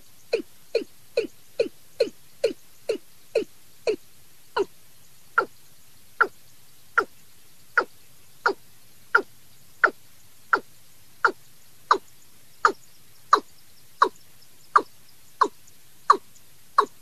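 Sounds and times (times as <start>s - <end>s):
recorded bird lure call: 0.0s - 4.0s, 5.4s - 5.6s, 6.2s - 6.4s, 7.8s - 17.0s.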